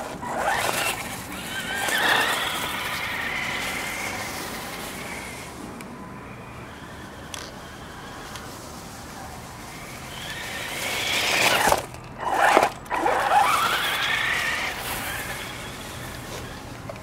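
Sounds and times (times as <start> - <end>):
toy car motor whine: 0.0 - 5.6, 6.3 - 8.8, 9.7 - 17.0.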